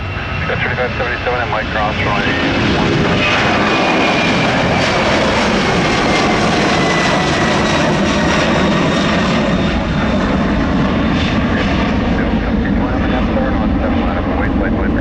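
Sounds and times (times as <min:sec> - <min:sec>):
high engine whine: 0:00.0 - 0:15.0
jet engines roaring: 0:00.0 - 0:15.0.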